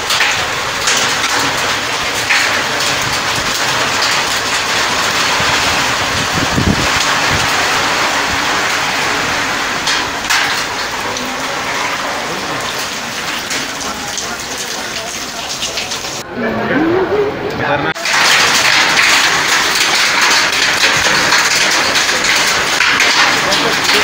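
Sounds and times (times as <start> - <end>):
hailstones ticking: 0.0 - 16.2, 18.0 - 24.0
heavy rain hissing: 0.0 - 16.2, 18.0 - 24.0.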